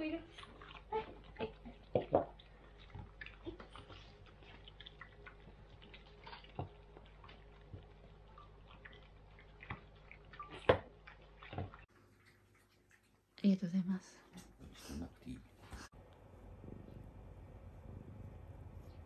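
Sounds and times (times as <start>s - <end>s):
cats chewing and licking: 0.0s - 19.0s
faint low hum: 0.0s - 19.0s.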